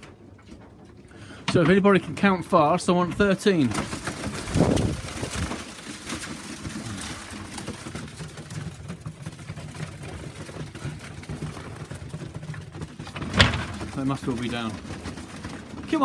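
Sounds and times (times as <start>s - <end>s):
pigeon wings fluttering: 2.2s - 16.0s.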